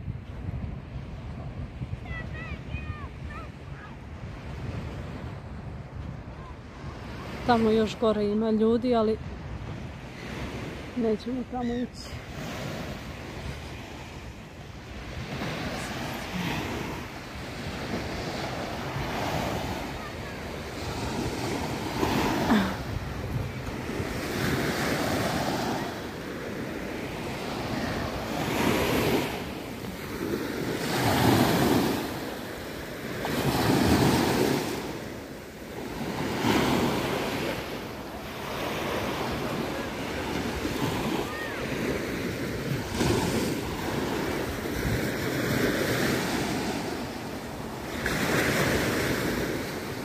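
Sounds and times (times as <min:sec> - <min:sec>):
small waves breaking on shore: 0:00.0 - 0:50.0
wind on microphone: 0:00.0 - 0:50.0.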